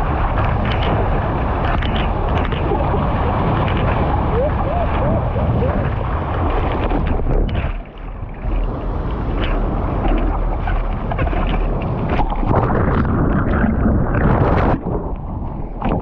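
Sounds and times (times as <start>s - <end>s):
sea water splashing: 0.0s - 16.0s
wind buffeting microphone: 0.0s - 16.0s.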